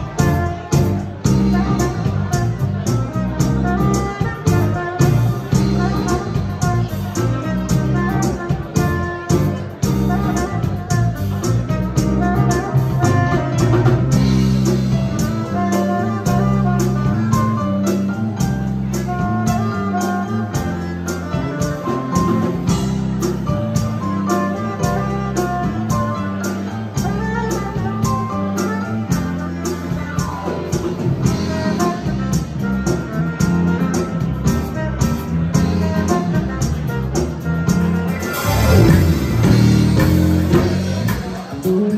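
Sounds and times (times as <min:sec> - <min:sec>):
drum kit with cymbals: 0:00.0 - 0:41.9
electric bass: 0:00.0 - 0:41.9
electric keyboard: 0:00.0 - 0:41.9.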